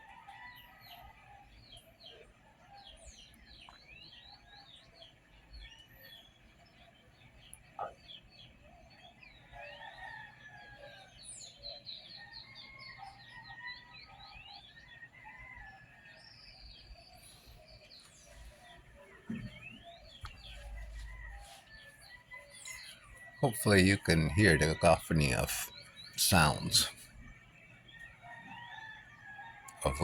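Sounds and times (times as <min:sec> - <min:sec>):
small birds chirping and trilling: 0:00.0 - 0:30.0.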